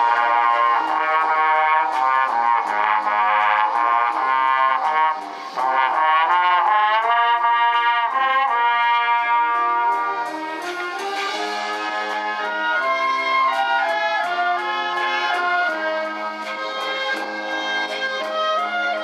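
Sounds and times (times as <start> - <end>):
trombones and trumpets chords: 0.0 - 19.0
wind band playing: 0.0 - 19.0.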